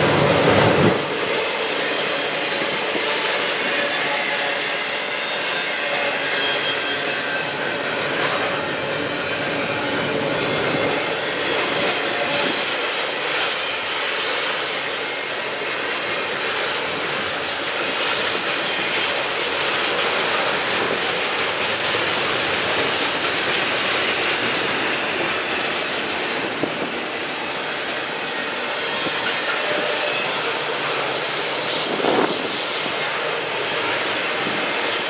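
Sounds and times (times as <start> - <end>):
steel wheels rolling on rail: 0.0 - 35.0.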